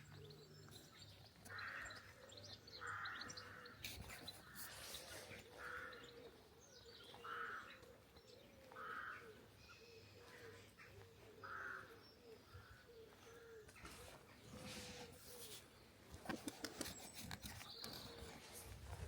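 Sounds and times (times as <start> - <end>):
faint birds calling: 0.0 - 19.0.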